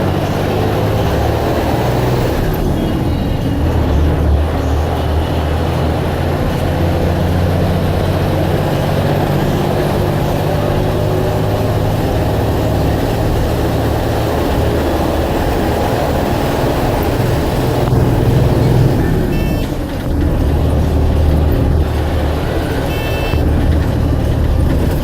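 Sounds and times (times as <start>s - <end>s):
bus engine drone: 0.0s - 25.0s
road noise: 0.0s - 25.0s.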